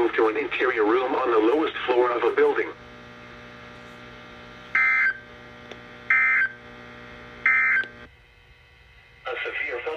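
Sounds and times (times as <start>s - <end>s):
radio hum: 0.0s - 8.1s, 9.2s - 9.9s.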